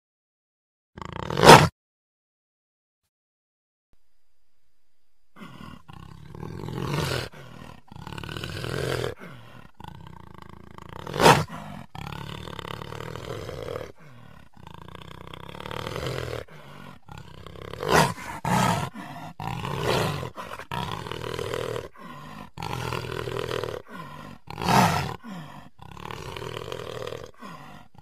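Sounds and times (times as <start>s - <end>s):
tiger growls and roars: 1.0s - 1.7s, 5.4s - 28.0s.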